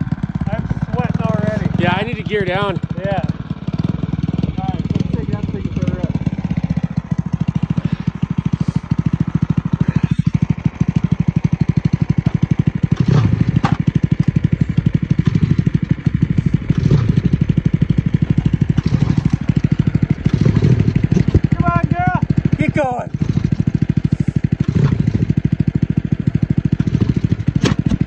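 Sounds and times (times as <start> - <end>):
snowmobile engine idling: 0.0 - 28.0.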